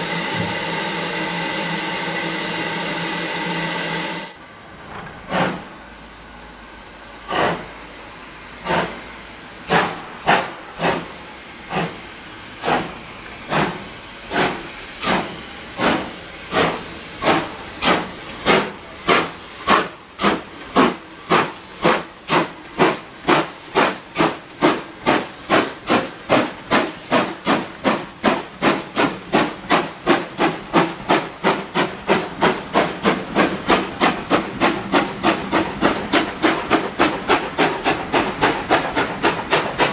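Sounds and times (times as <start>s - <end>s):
steam locomotive chuffing: 0.0s - 6.2s, 7.1s - 39.9s.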